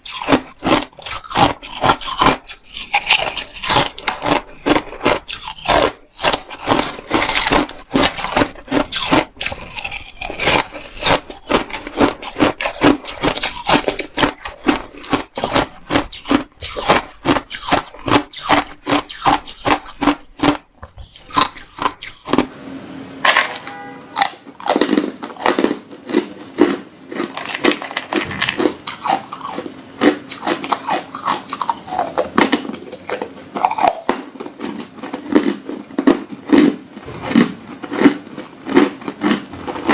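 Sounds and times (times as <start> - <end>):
ice being chewed: 0.0 - 22.5, 23.3 - 39.9.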